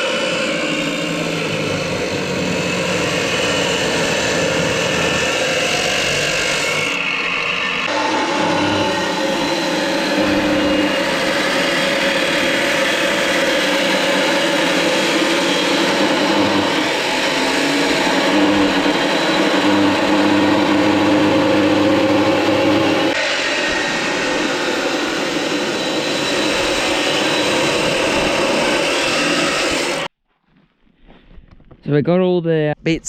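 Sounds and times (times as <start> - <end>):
power cutting tool running: 0.0 - 30.1.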